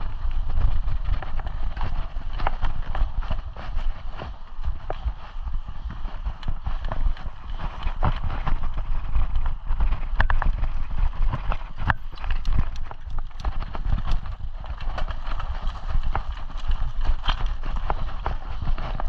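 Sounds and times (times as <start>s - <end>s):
mountain bike rattling on gravel: 0.0s - 19.0s.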